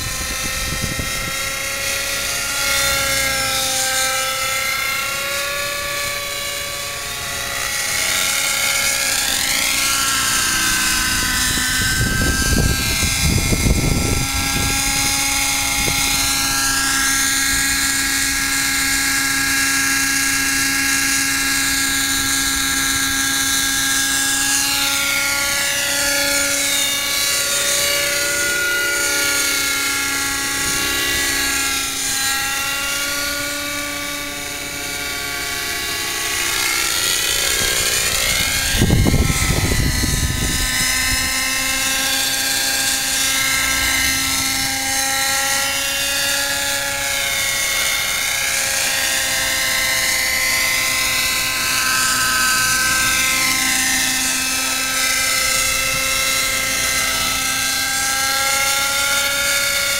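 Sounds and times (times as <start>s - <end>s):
model helicopter engine droning: 0.0s - 59.9s.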